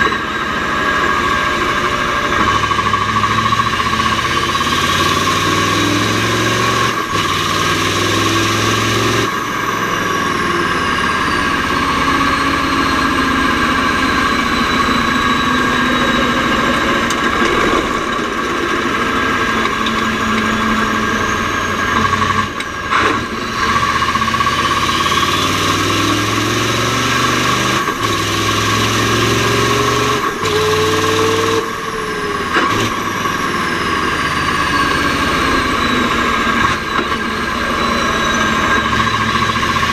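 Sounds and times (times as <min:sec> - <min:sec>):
truck engine pulling under load: 0:00.0 - 0:39.9.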